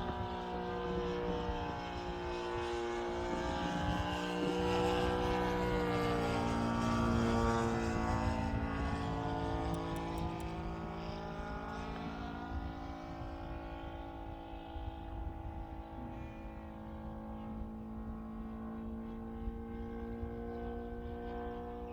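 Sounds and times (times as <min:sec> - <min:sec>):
model airplane engine in flight: 0:00.0 - 0:21.9.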